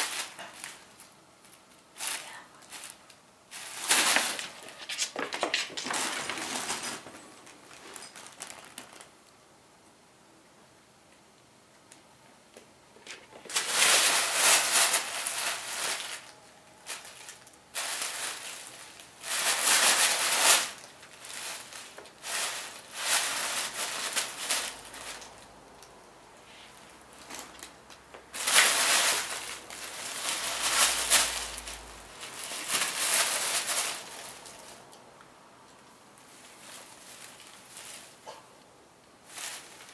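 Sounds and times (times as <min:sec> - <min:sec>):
tissue paper rustling and crinkling: 0:00.0 - 0:09.2, 0:13.4 - 0:25.4, 0:26.5 - 0:34.9, 0:36.2 - 0:38.2, 0:39.2 - 0:39.9.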